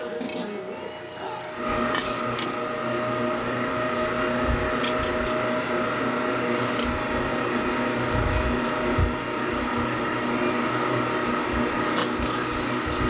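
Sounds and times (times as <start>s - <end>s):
gas burner roaring: 0.0s - 13.0s.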